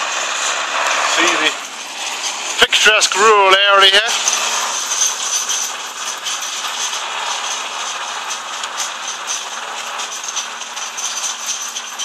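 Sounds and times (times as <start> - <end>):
constant high whine: 0.0 - 12.0
muck spreader clattering: 0.0 - 12.0.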